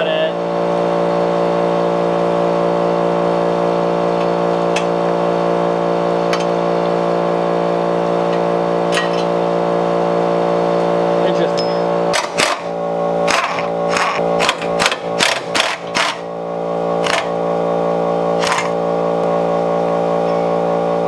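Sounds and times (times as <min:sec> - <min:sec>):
steady machine drone: 0:00.0 - 0:21.0.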